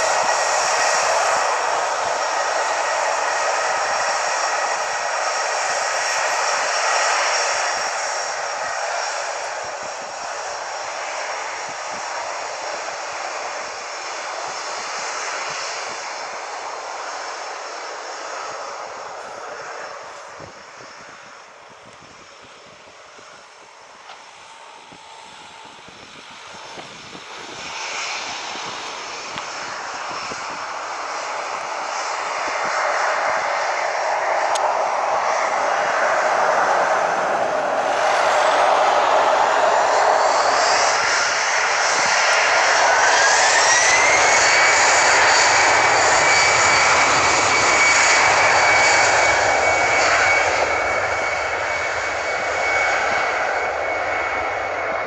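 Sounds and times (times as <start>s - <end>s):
airliner engines whine and roar: 0.0s - 55.0s.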